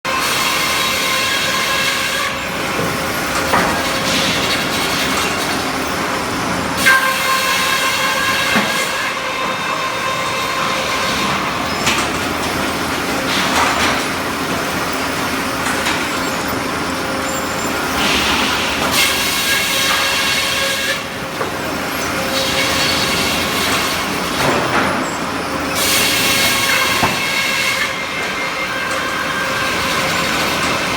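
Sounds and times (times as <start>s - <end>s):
sawmill grinding noise: 0.1s - 30.9s.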